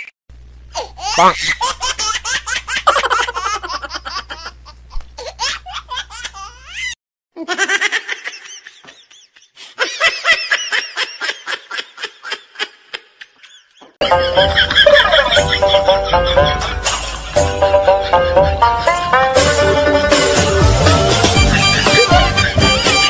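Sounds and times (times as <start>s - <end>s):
high-pitched laughter: 1.0s - 19.1s, 21.5s - 23.0s.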